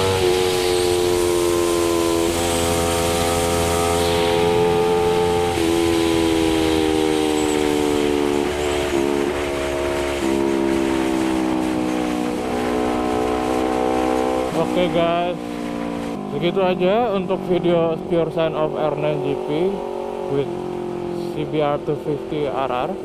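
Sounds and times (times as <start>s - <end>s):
motorcycle engine droning: 0.0s - 23.0s
wind and road noise: 0.0s - 23.0s.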